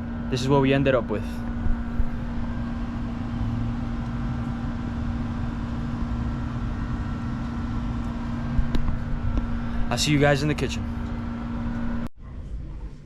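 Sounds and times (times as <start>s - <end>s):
machine humming and rumbling: 0.0s - 13.0s.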